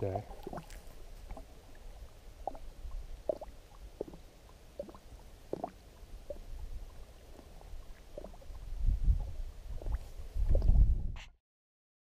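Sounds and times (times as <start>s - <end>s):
water ripples gurgling and plopping: 0.0s - 11.0s.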